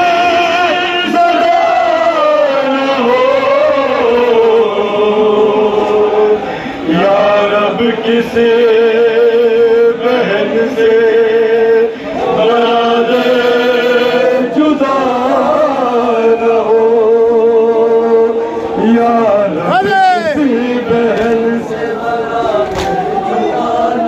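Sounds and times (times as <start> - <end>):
men chanting a lament: 0.0 - 24.0.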